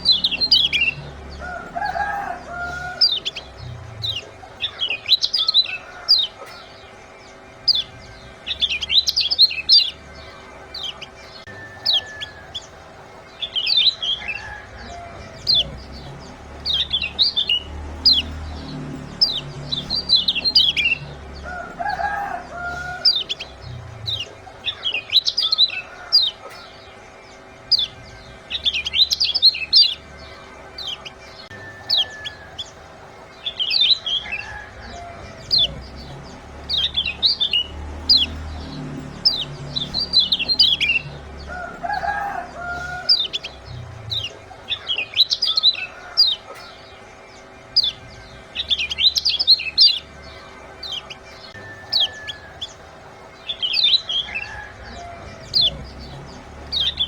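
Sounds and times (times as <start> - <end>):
bird giving high chirps: 0.0 - 57.0
lower bird call: 0.0 - 57.0.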